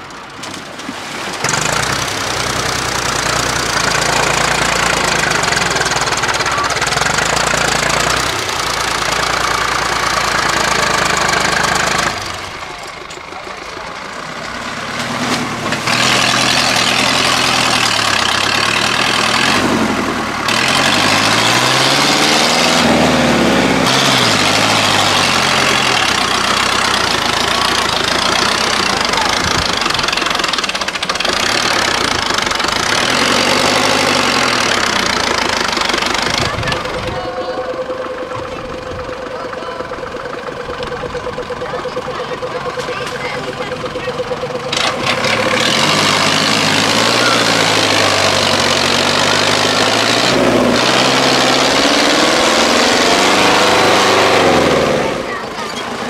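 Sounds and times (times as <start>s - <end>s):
tractor engines revving: 0.0s - 56.0s.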